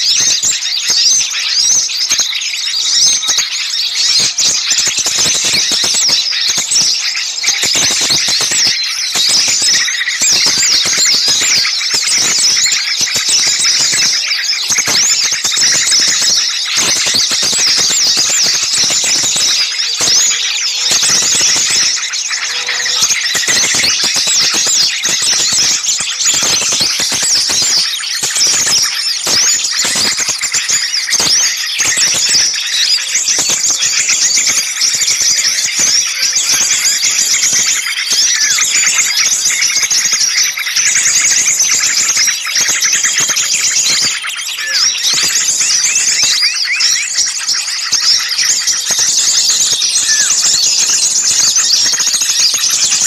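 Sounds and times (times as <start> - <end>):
songbirds chattering and chirping: 0.0 - 53.0.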